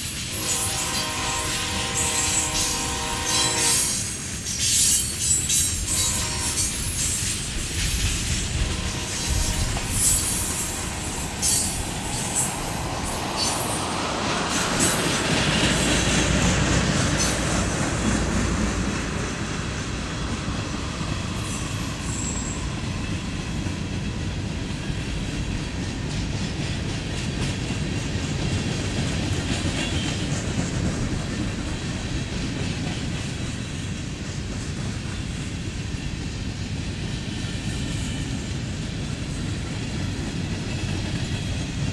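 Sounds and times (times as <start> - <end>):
freight cars rolling on rails: 0.0 - 41.9.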